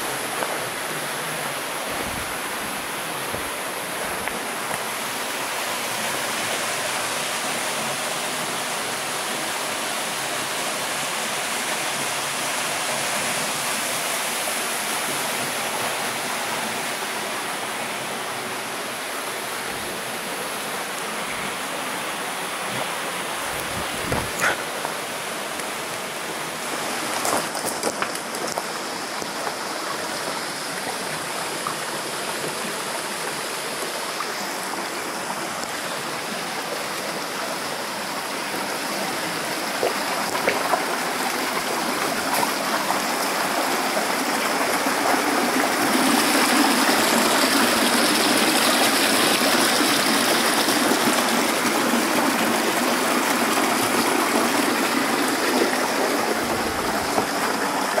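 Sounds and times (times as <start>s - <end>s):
mountain stream rushing water: 0.0s - 58.0s.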